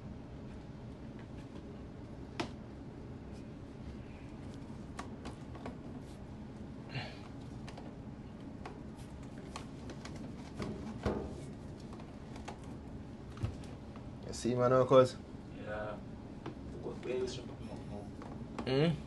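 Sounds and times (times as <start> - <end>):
low steady background noise: 0.0 - 19.0.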